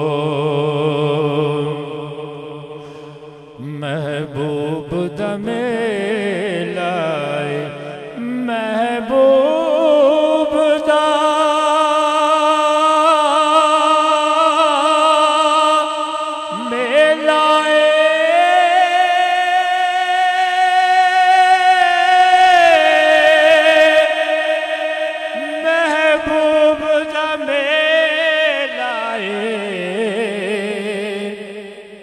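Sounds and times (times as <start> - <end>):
man singing into a microphone: 0.0 - 32.0.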